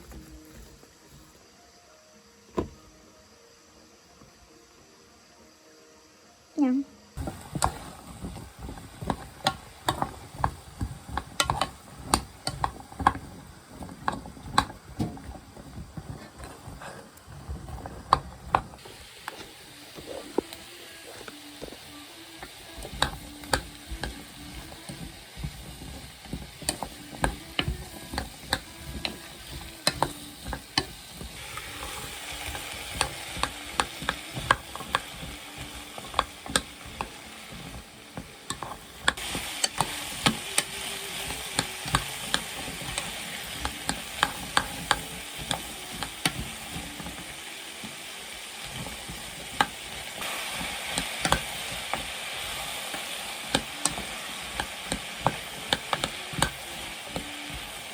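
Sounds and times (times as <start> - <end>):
food sizzling in a frying pan: 0.0 - 4.5, 5.4 - 57.9
utensil clacking against pan: 7.2 - 57.9.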